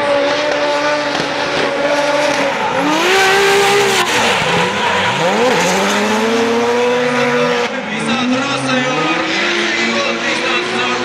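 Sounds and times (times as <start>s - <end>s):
car engines at high revs: 0.0s - 11.0s.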